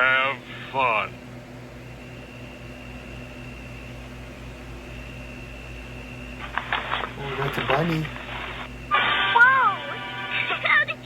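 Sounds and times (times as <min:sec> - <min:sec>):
high-pitched whine: 0:00.0 - 0:10.8
electrical hum and hiss: 0:00.0 - 0:11.0.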